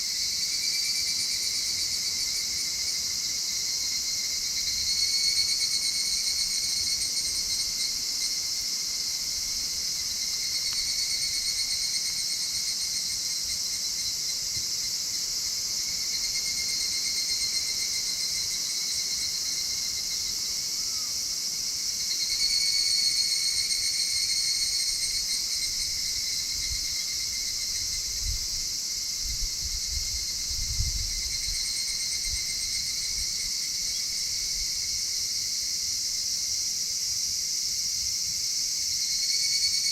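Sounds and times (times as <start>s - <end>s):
loud pulsing insect trill: 0.0s - 39.9s.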